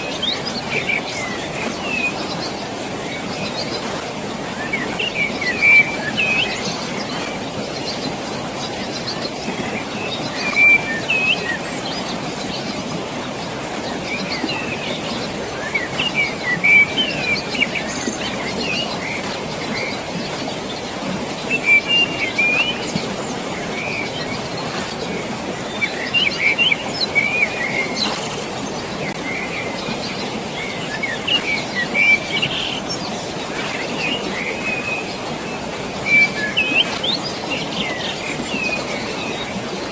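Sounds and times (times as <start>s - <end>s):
birds chirping: 0.0s - 39.9s
distant rushing water: 0.0s - 39.9s.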